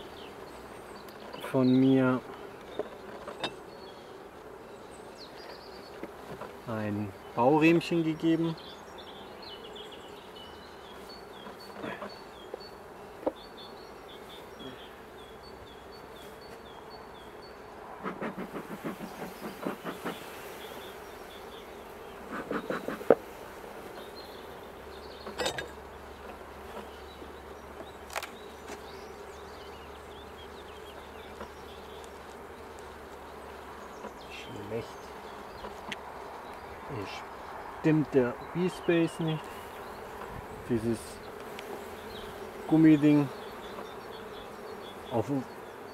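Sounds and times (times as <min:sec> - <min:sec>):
honeybees humming: 0:00.0 - 0:45.9.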